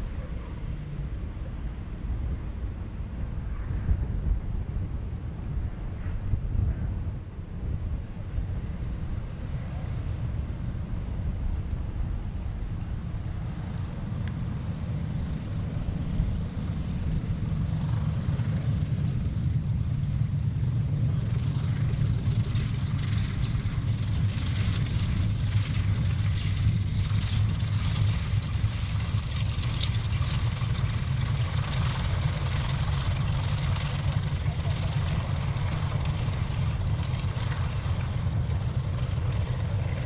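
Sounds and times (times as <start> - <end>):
propeller aircraft engines droning: 0.0 - 40.0.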